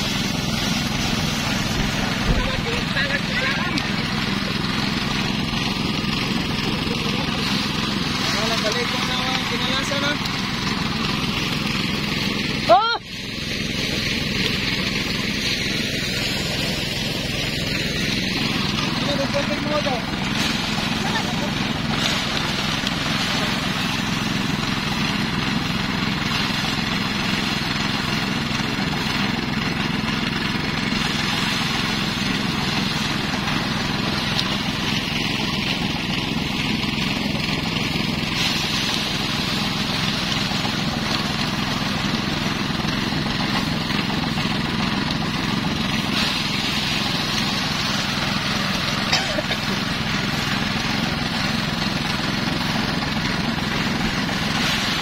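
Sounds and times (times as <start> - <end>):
small engine driving thresher: 0.0 - 55.0.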